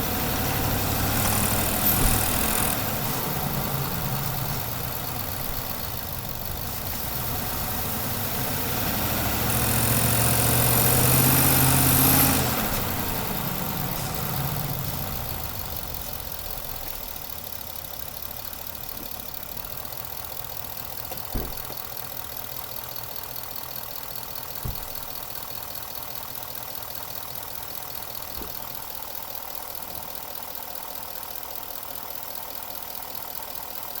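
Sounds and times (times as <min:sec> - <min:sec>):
truck engine accelerating: 0:00.0 - 0:30.2.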